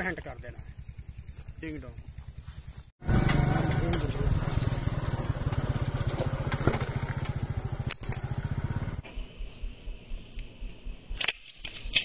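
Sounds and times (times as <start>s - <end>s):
motorcycle engine running: 0.0s - 11.1s.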